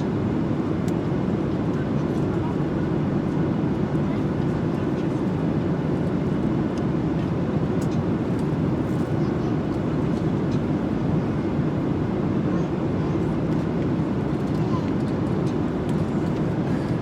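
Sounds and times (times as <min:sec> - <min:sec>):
airliner cabin noise: 0:00.0 - 0:17.0.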